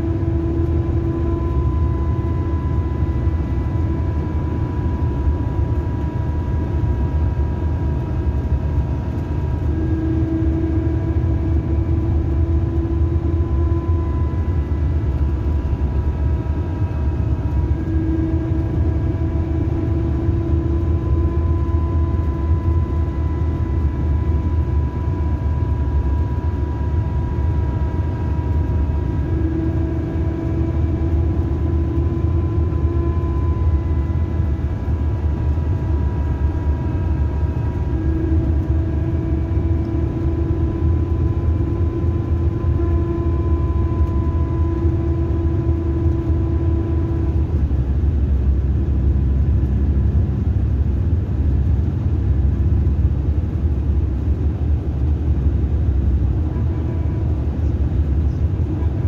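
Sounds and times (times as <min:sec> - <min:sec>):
engine and road rumble: 0:00.0 - 0:59.0
whine of stacked tones: 0:00.0 - 0:59.0.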